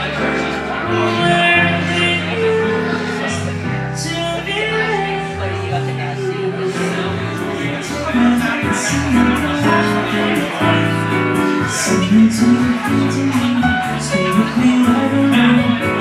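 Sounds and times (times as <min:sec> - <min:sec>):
electric bass guitar: 0:00.0 - 0:16.0
grand piano: 0:00.0 - 0:16.0.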